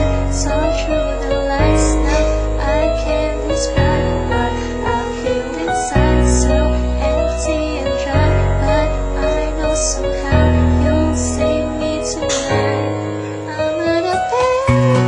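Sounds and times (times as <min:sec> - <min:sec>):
sustained bass notes: 0:00.0 - 0:13.8
person singing: 0:00.0 - 0:15.0
piano chords: 0:00.0 - 0:15.0
slow pop song: 0:00.0 - 0:15.0.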